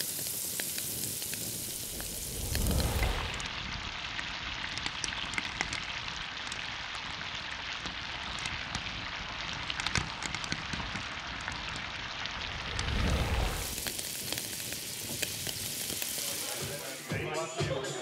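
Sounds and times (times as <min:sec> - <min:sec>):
fat popping and crackling: 0:00.0 - 0:16.1
meat sizzling on grill: 0:00.0 - 0:17.2.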